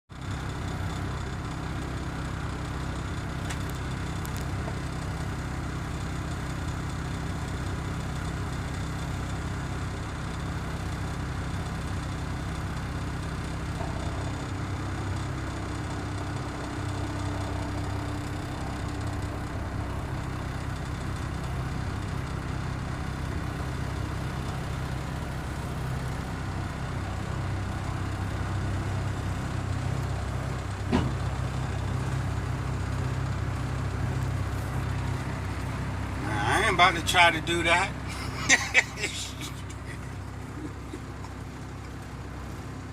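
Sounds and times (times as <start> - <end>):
truck engine droning: 0.1 - 42.9.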